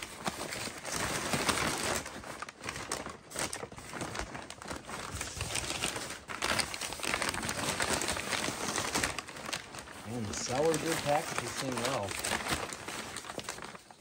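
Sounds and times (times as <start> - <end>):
packing paper crinkling: 0.0 - 14.0.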